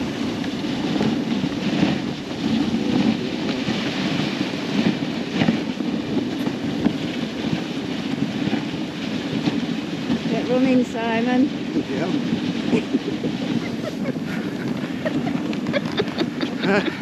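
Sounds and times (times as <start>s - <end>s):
sled runners scraping on snow: 0.0s - 17.0s.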